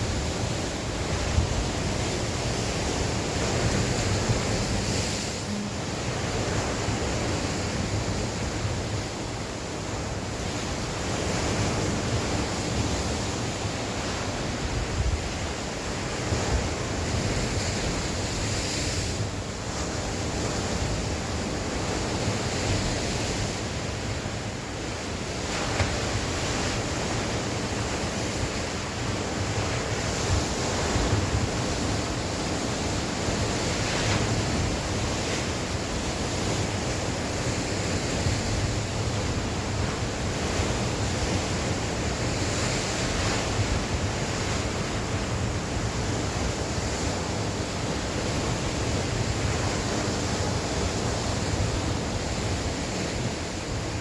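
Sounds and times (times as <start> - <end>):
sea waves washing ashore: 0.0 - 54.0
strong wind: 0.0 - 54.0.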